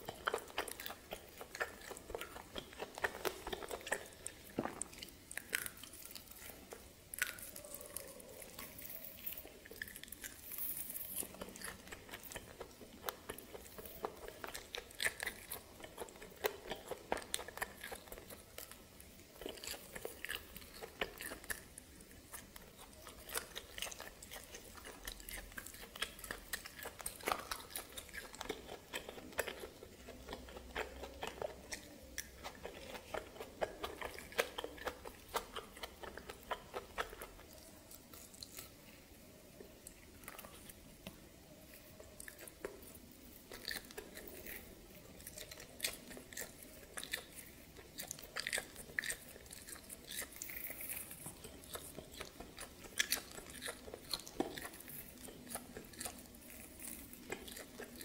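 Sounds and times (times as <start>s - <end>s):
biting and chewing mouth sounds: 0.0s - 58.0s.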